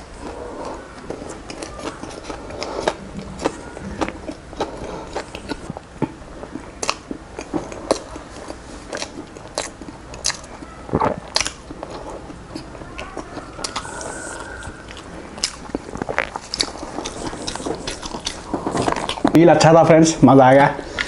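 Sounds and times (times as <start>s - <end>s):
lip smacks: 0.0s - 19.4s
man chewing: 0.0s - 19.8s.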